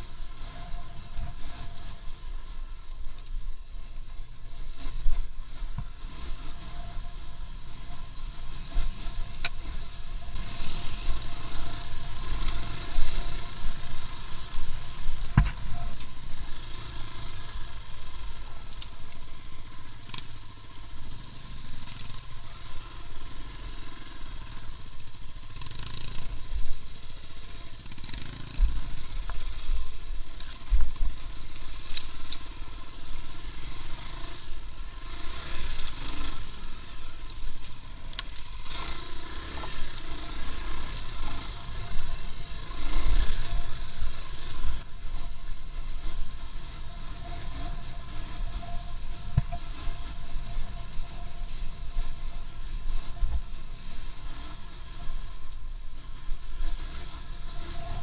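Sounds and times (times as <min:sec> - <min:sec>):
vehicle rumble: 0:00.0 - 0:58.0.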